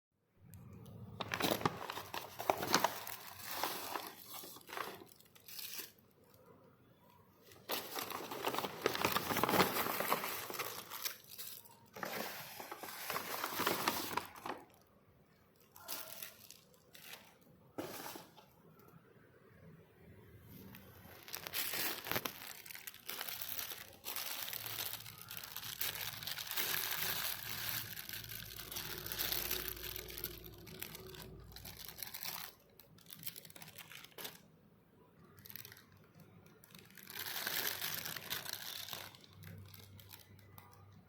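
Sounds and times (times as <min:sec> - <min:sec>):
food packaging crinkling and tearing: 0:00.6 - 0:06.5, 0:07.4 - 0:14.9, 0:15.6 - 0:18.4, 0:20.6 - 0:34.5, 0:35.2 - 0:41.0.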